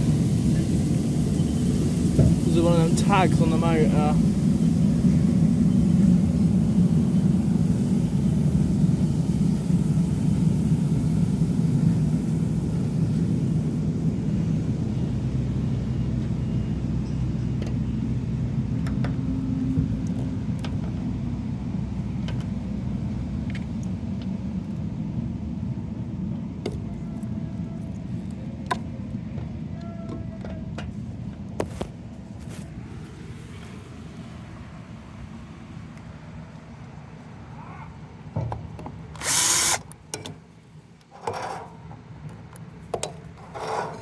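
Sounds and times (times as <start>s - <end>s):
road machinery rumbling: 0.0s - 44.0s.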